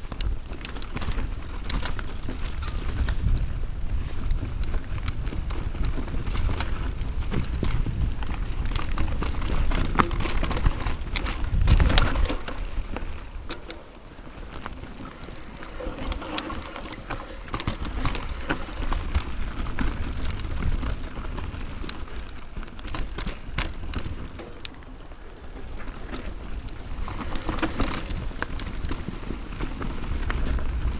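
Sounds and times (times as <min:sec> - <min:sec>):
bike rattling over bumps: 0:00.0 - 0:30.9
bike tyres rolling over dirt: 0:00.0 - 0:30.9
wind rumbling on microphone: 0:00.0 - 0:30.9.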